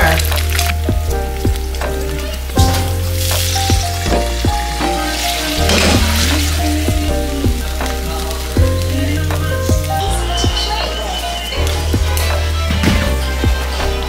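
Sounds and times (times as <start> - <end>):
background music with bass line: 0.0 - 14.0.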